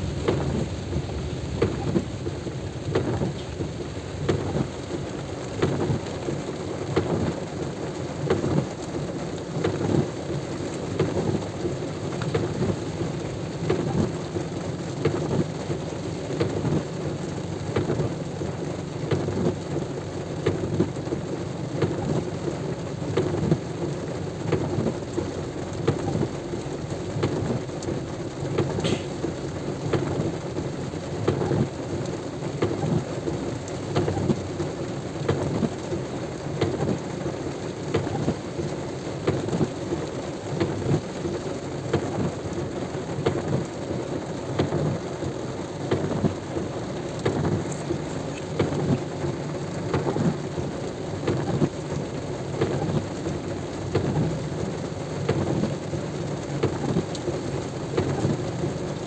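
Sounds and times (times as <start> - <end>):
heavy rain pelting: 0.0 - 59.0.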